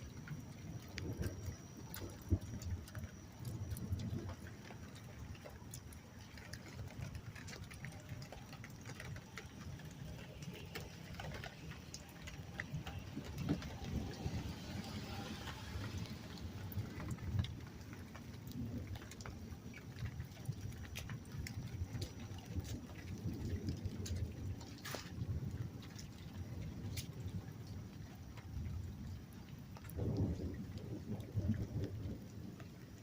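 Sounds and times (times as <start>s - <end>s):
hiss of heavier rain: 0.0s - 33.0s
low uneven thunder rumble: 0.0s - 33.0s
rain: 0.0s - 33.0s
sharp drips and taps: 0.0s - 33.0s.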